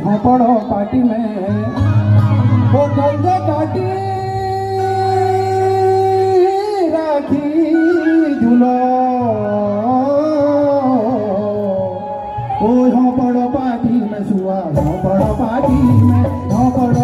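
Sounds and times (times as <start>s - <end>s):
person singing long notes: 1.4s - 17.0s.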